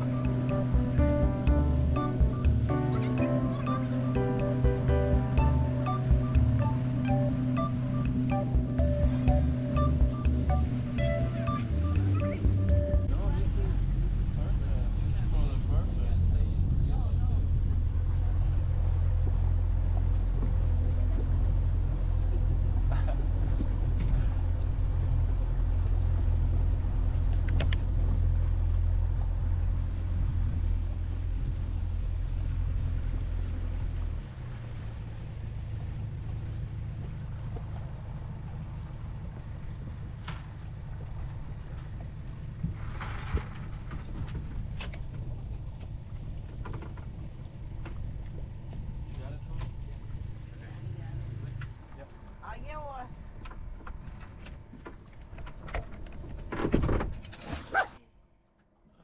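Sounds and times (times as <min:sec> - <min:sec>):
boat motor rumbling: 0:00.0 - 0:57.3.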